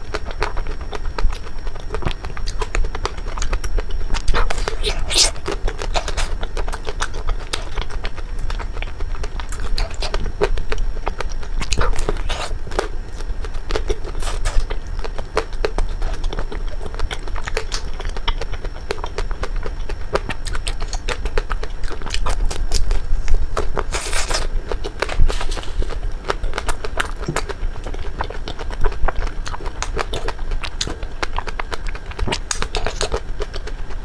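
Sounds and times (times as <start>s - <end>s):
crunching ice cream cone: 0.0s - 34.0s.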